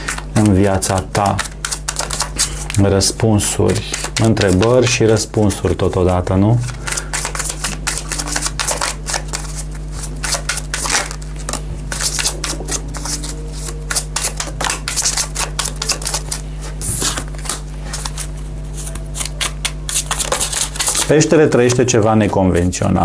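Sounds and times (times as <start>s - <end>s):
cards being shuffled: 0.0s - 22.8s
steady low hum: 0.0s - 23.0s.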